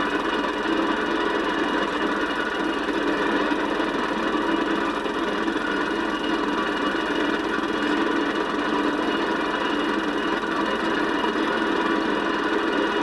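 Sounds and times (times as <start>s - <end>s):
film projector whirring and clattering: 0.0s - 13.0s.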